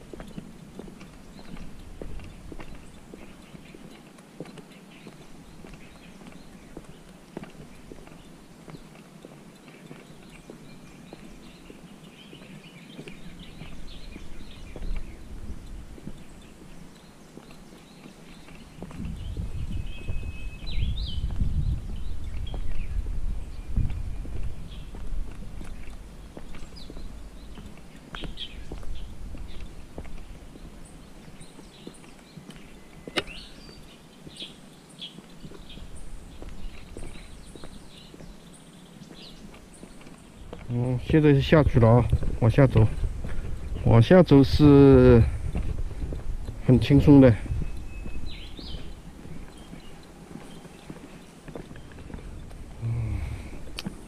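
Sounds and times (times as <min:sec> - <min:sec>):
footsteps on paved path: 0:00.0 - 0:54.0
small birds chirping: 0:00.0 - 0:54.0.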